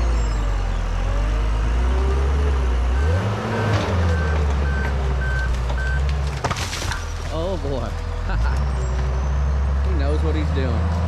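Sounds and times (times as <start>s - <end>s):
bulldozer diesel engine: 0.0s - 11.0s.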